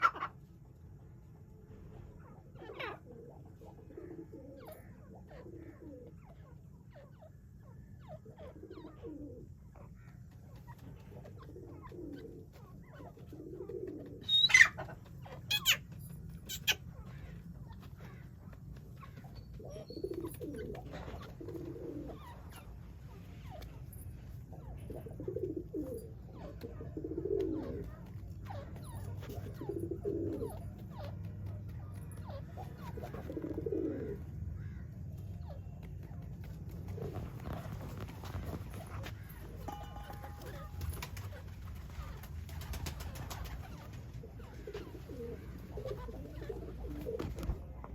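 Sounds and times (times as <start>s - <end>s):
pigeons cooing: 0.0s - 0.5s, 2.0s - 47.9s.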